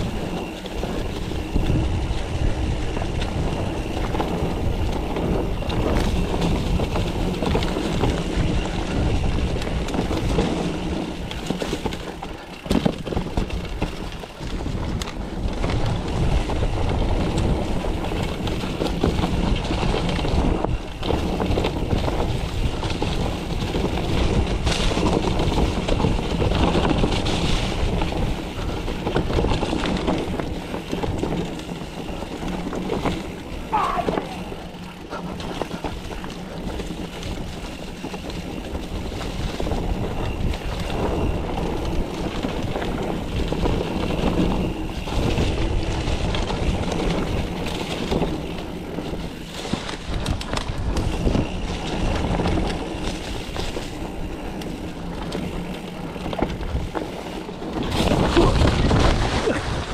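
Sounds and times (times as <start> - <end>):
bike rattling and knocking: 0.0 - 59.9
bike tyre noise: 0.0 - 59.9
wind buffeting microphone: 0.0 - 59.9.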